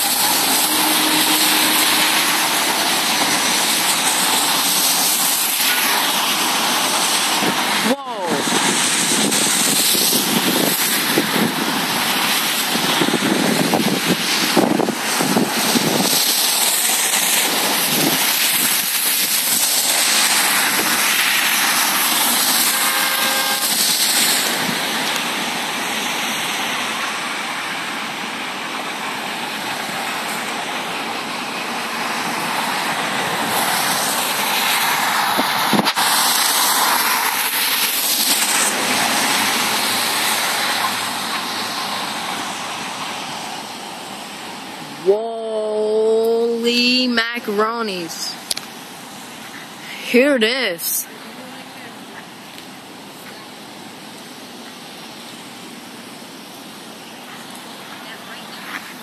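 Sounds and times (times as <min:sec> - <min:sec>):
car road and wind noise: 0:00.0 - 0:49.8
tyres hissing on wet road: 0:00.0 - 0:59.0.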